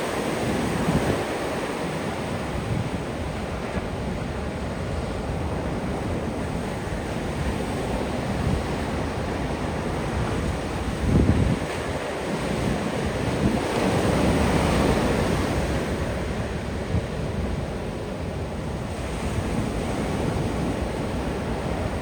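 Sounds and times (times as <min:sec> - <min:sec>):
ocean surf washing onto beach: 0:00.0 - 0:22.0
wind rumbling on microphone: 0:00.0 - 0:22.0.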